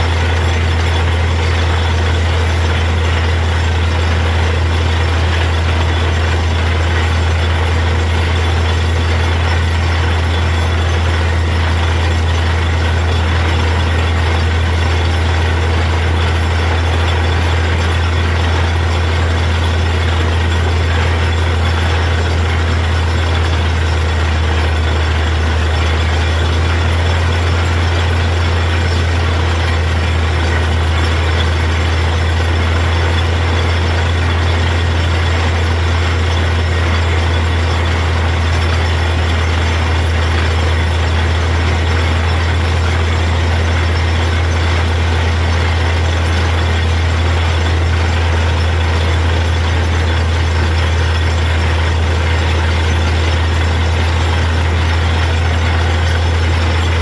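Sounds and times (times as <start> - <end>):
deep engine drone: 0.0 - 57.0.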